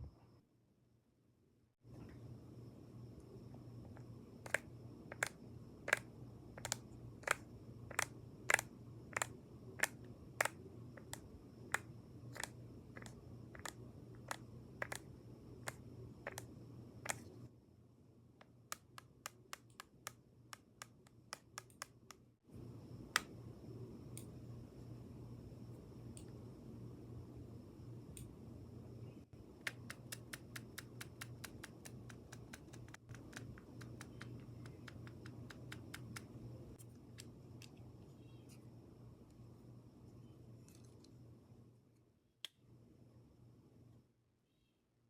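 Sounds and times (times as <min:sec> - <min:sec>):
steady low hum: 0:01.8 - 0:44.1.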